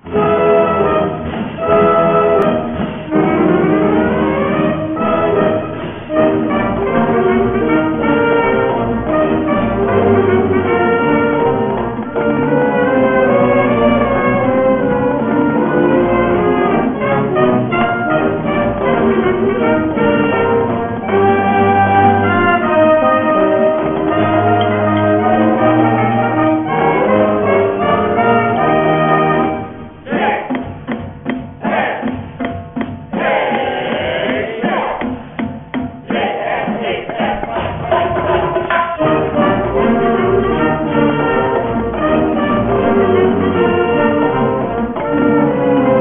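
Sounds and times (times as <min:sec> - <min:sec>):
brass and woodwinds holding chords: 0:00.0 - 0:30.5, 0:39.0 - 0:46.0
marching band playing: 0:00.0 - 0:46.0
snare and tenor drums: 0:00.0 - 0:46.0.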